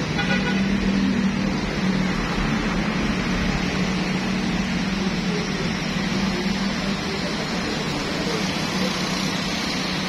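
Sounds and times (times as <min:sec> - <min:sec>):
noisy background: 0:00.0 - 0:10.0.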